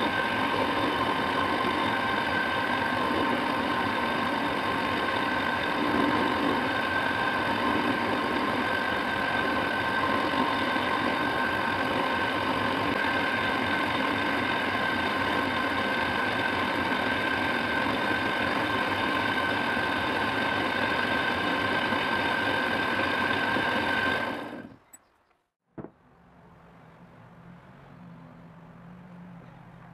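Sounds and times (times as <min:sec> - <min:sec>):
power tool whining: 0:00.0 - 0:24.8.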